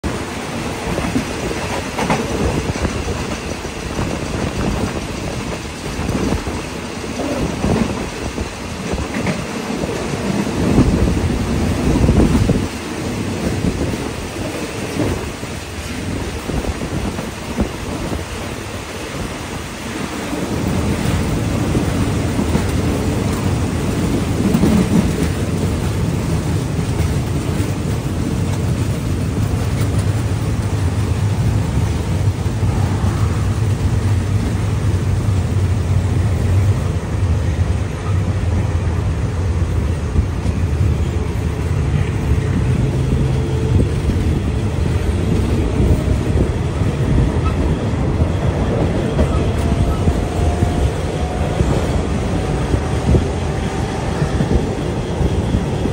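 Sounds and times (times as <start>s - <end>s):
rushing air: 0.0s - 55.9s
train wheels rumbling on rail: 0.0s - 55.9s.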